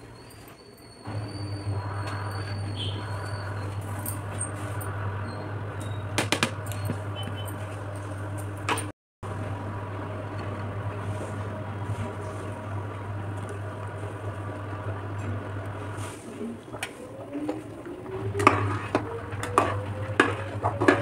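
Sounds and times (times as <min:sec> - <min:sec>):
pot simmering: 0:01.1 - 0:21.0
steady low hum: 0:01.1 - 0:21.0.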